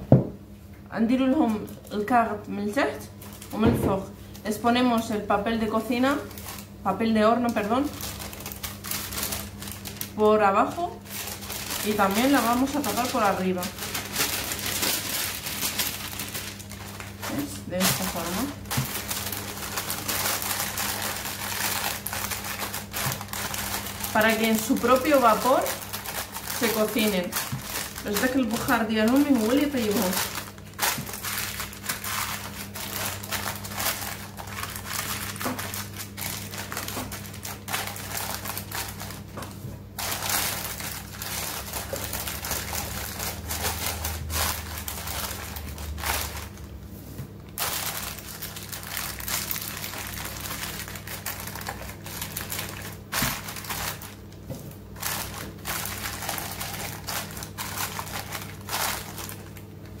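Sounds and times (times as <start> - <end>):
baking paper crinkling: 1.4 - 60.0.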